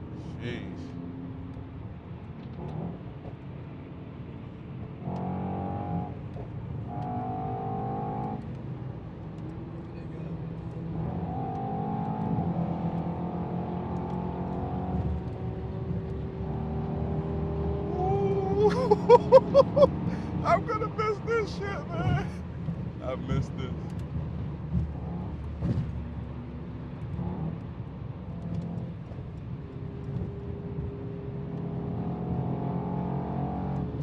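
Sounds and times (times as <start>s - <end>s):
car engines and exhaust: 0.0s - 34.0s.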